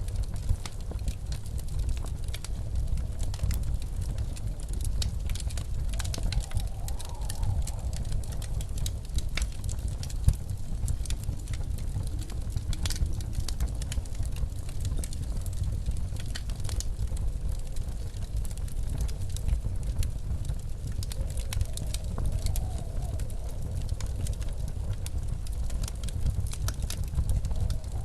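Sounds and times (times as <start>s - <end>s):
wood fire crackling: 0.0s - 28.0s
storm wind howling: 0.1s - 28.0s.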